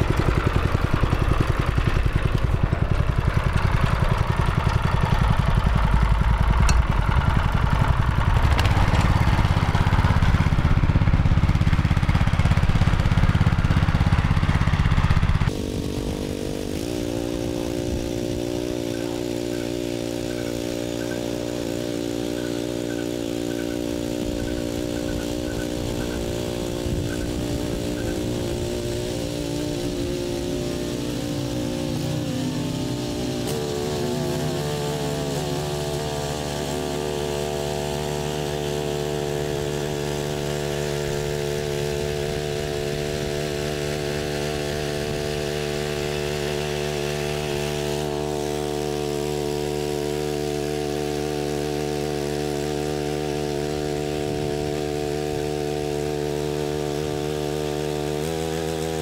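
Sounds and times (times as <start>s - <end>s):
motor tiller engine running: 0.0s - 59.0s
tines churning soil: 0.0s - 59.0s.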